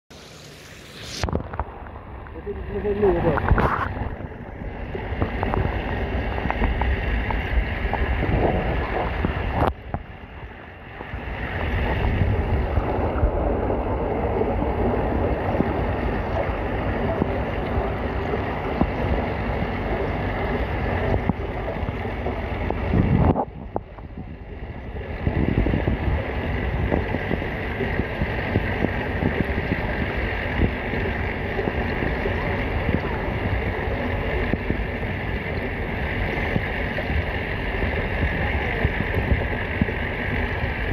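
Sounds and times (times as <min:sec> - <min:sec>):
muffled underwater rumble and crackle: 0:00.1 - 0:40.9.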